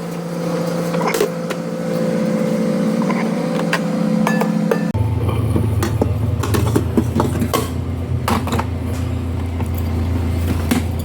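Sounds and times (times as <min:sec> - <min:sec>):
steady low hum: 0:01.7 - 0:11.0.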